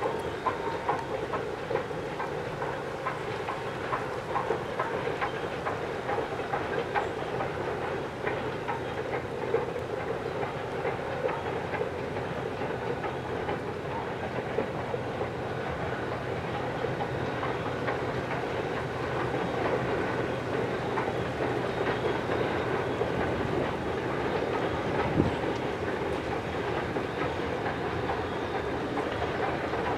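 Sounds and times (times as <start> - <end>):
train wheels rolling on rails: 0.0 - 29.9
wheels clicking over rail joints: 0.0 - 29.9.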